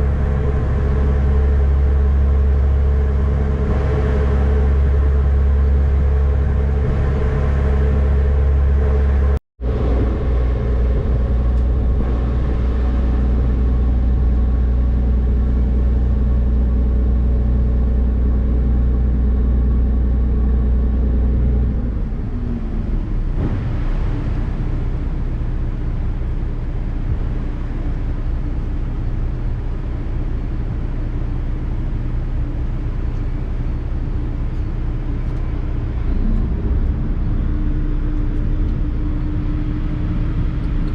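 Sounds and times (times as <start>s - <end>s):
ferry engines droning: 0.0s - 40.9s
water noise: 0.0s - 40.9s
wind: 0.0s - 40.9s.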